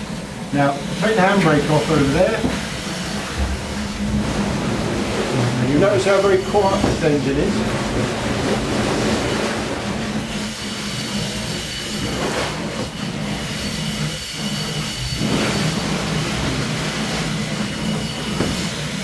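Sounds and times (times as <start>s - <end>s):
steam engine rumbling and hissing: 0.0s - 19.0s.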